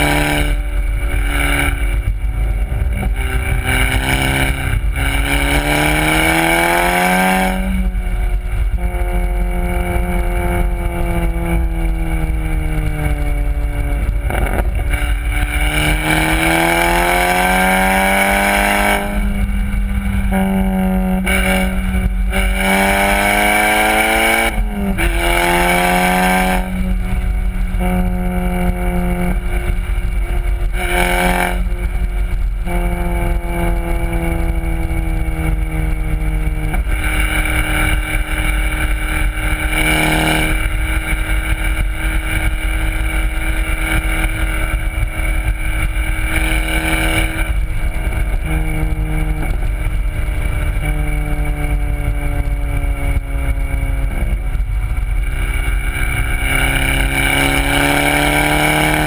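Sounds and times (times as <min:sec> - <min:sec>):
car engine revving hard: 0:00.0 - 0:59.0
road and wind rumble: 0:00.0 - 0:59.0.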